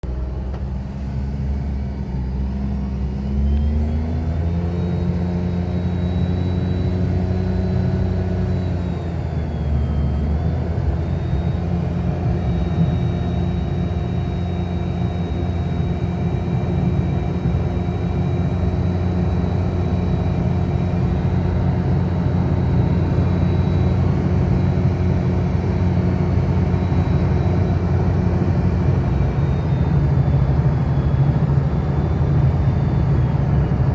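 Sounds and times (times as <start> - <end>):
car engine drone with whine: 0.0 - 33.9.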